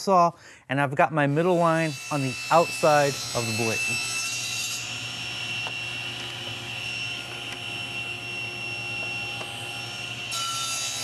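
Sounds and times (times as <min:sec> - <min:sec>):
saw blade cutting wood: 0:01.2 - 0:11.0
table saw blade whine: 0:01.3 - 0:11.0.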